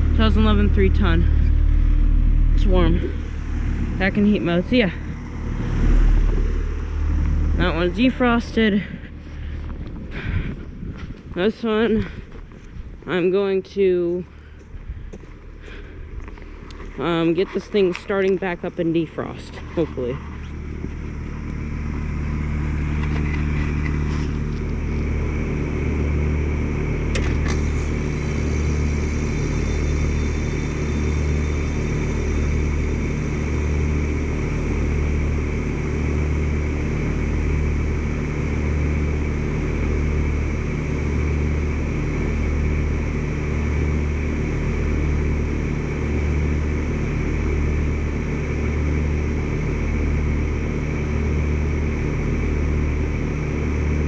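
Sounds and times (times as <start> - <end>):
heat pump compressor and fan: 0.0 - 54.0.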